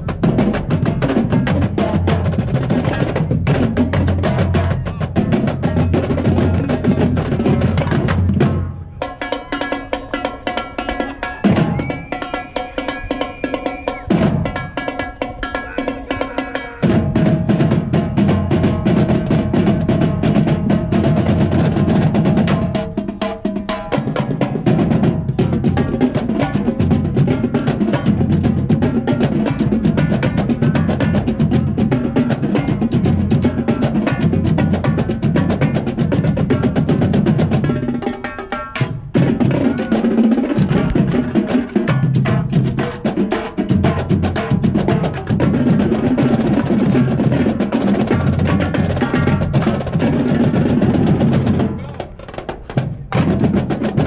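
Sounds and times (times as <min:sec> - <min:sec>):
marching drumline cadence: 0:00.0 - 0:54.0.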